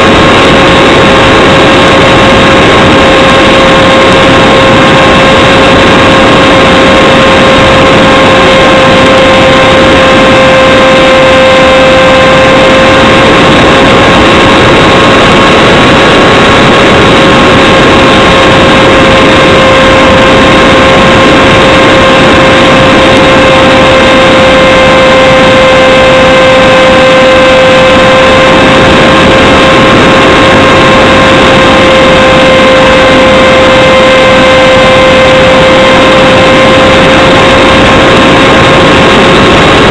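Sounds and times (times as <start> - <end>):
electric motor and propeller whine: 0.0 - 39.9
wind noise: 0.0 - 39.9.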